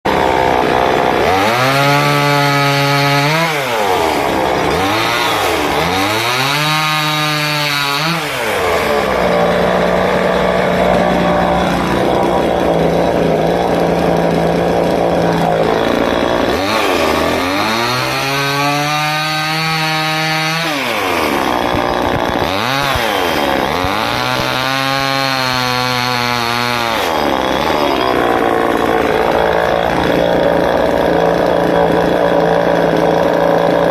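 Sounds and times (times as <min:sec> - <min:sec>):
chainsaw revving and cutting wood: 0:00.0 - 0:33.9.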